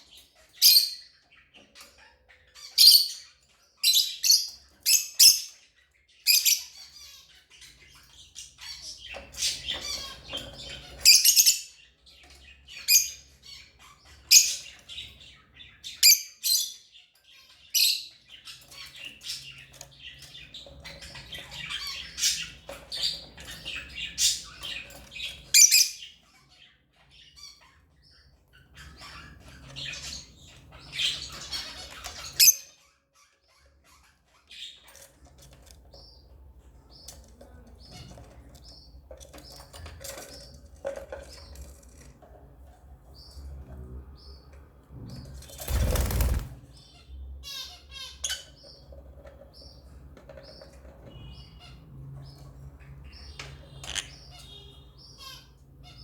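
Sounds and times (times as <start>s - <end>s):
lovebirds chirping and squawking: 0.0s - 56.0s.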